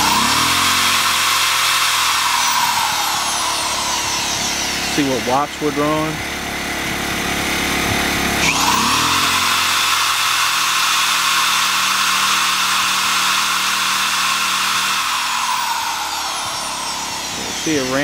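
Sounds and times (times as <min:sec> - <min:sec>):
generator engine running: 0:00.0 - 0:18.0
hammer drill whining: 0:00.0 - 0:18.0.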